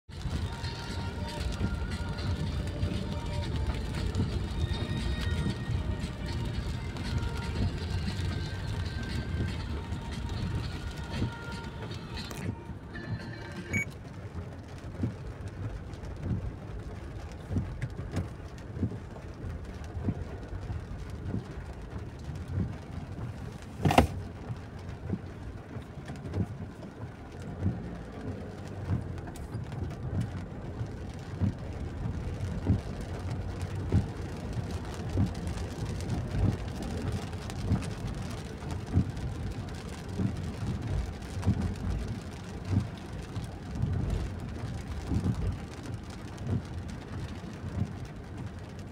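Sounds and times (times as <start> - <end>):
heavy rain drumming on car roof: 0.1 - 48.9.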